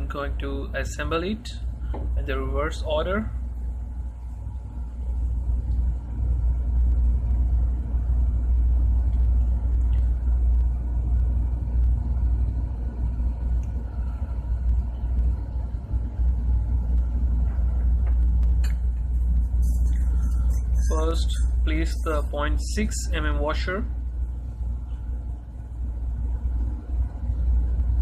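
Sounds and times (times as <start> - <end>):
faint steady hum: 0.0 - 28.0
low rumble of machinery: 0.0 - 28.0.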